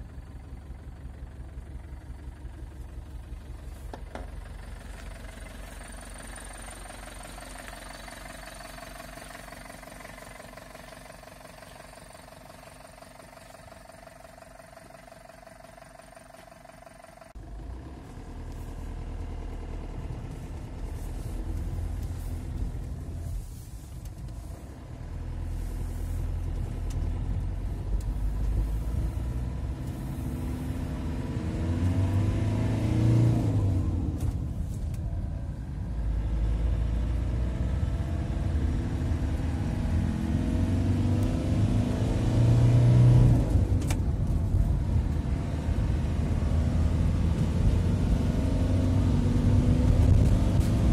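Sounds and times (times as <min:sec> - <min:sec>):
diesel engine accelerating: 0:00.0 - 0:50.9.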